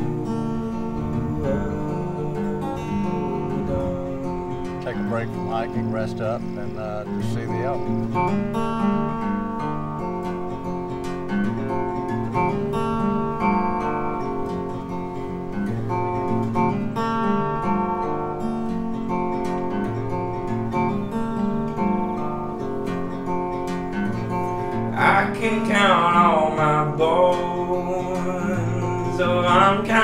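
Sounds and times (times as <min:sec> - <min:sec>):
acoustic guitar strumming and picking: 0:00.0 - 0:30.0.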